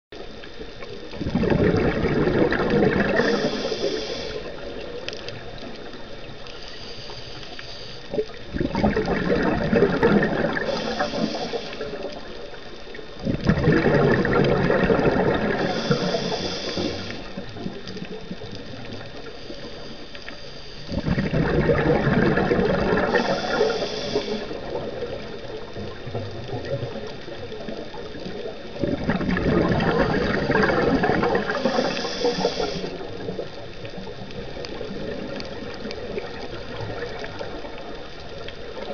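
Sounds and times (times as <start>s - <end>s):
exhaled bubbles underwater: 0.2s - 6.9s, 8.0s - 38.9s.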